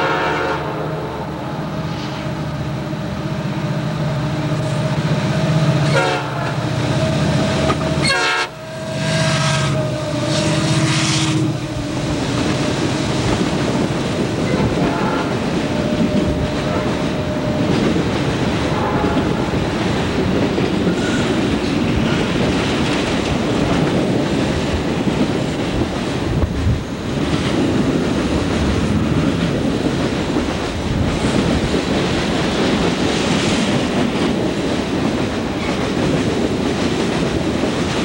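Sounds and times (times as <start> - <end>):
diesel locomotives running: 0.0 - 38.0
freight cars rolling on rails: 1.7 - 38.0.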